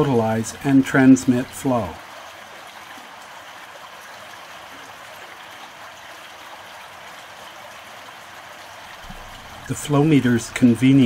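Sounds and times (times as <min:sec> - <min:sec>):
water rushing through culvert: 0:00.0 - 0:11.0.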